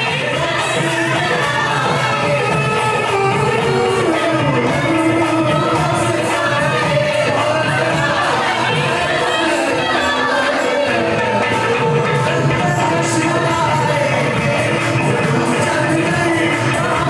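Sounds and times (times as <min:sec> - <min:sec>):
musical accompaniment: 0:00.0 - 0:17.0.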